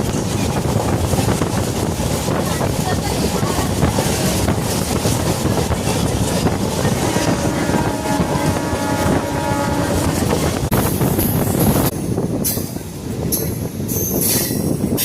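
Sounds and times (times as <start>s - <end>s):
train rumbling at speed: 0.0s - 15.0s
wind buffeting microphone: 0.0s - 15.0s.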